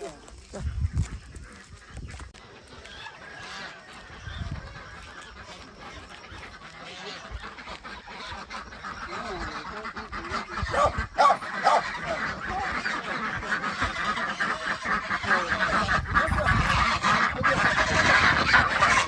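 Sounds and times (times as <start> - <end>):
farm birds calling: 0.0 - 19.0.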